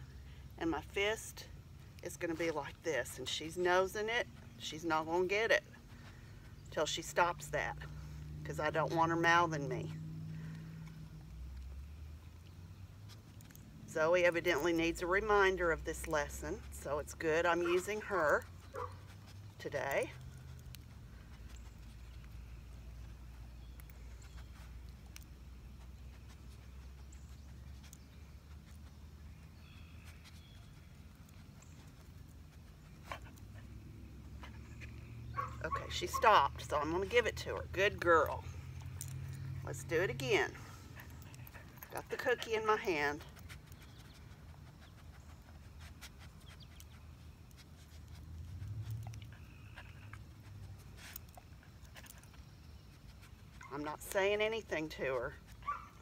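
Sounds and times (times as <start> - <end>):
low outdoor rumble: 0.0 - 56.0
dog sniffing and snuffling: 0.2 - 11.8, 12.4 - 56.0.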